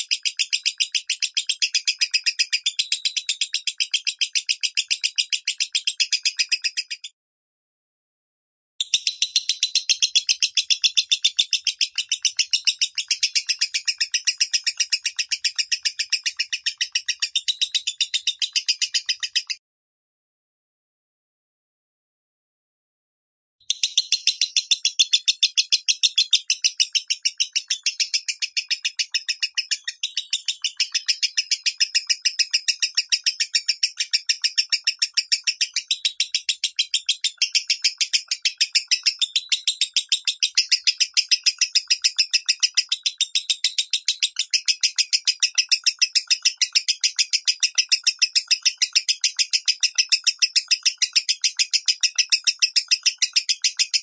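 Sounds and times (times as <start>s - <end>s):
lovebird chirping rapidly: 0.0s - 7.1s, 8.8s - 19.6s, 23.7s - 54.0s.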